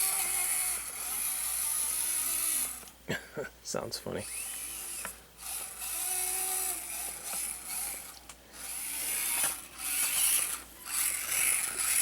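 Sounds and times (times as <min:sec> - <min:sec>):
small electric motor whirring: 0:00.0 - 0:03.0, 0:04.2 - 0:12.0
faint steady whine: 0:00.0 - 0:12.0.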